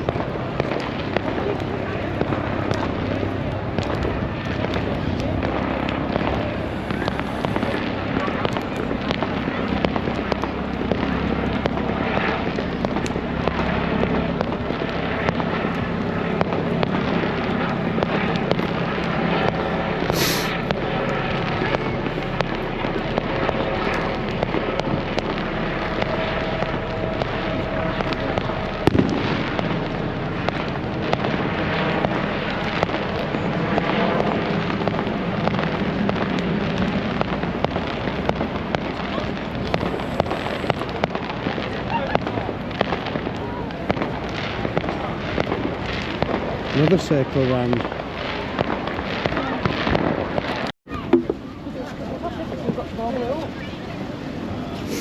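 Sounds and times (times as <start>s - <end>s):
low hum: 0.0s - 46.9s
fireworks crackling: 0.0s - 55.0s
sharp high crack: 3.7s - 51.2s.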